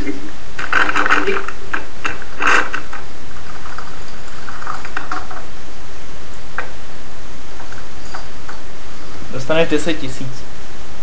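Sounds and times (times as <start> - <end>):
loud steady hiss: 0.0 - 11.0.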